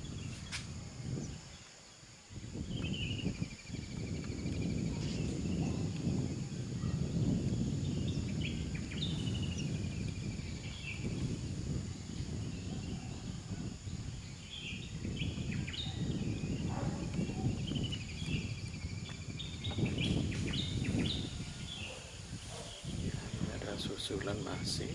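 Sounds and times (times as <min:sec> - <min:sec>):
small birds chirping and trilling: 0:00.0 - 0:24.9.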